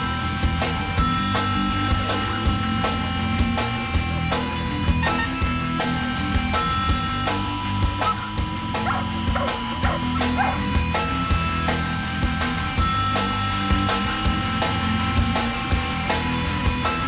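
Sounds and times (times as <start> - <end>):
drum kit beat: 0.0 - 17.0
electric guitar: 0.0 - 17.0.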